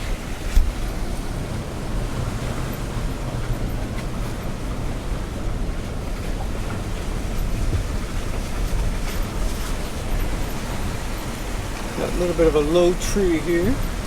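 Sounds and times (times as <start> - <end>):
pickup truck driving slowly: 0.0 - 14.0.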